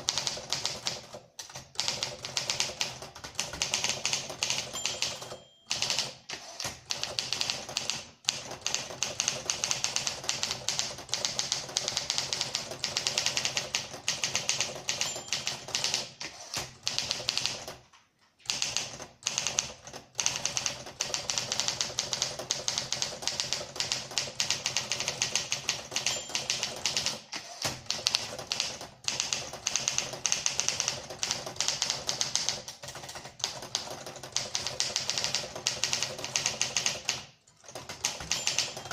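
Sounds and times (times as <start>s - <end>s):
manual typewriter typing: 0.0s - 38.9s.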